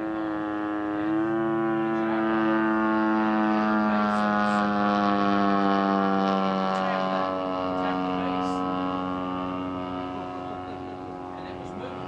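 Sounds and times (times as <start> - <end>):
model airplane engine and propeller: 0.0 - 12.0.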